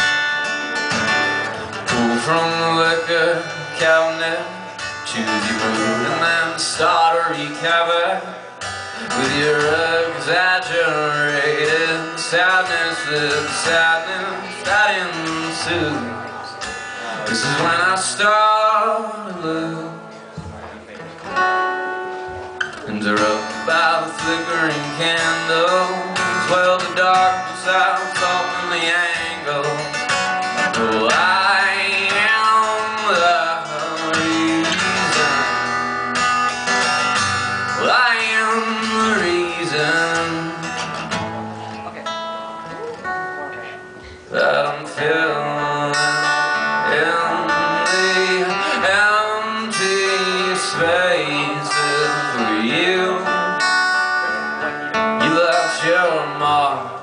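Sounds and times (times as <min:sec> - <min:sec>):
strummed acoustic guitar: 0:00.0 - 0:57.0
man singing: 0:00.7 - 0:21.5, 0:22.7 - 0:41.4, 0:43.7 - 0:57.0.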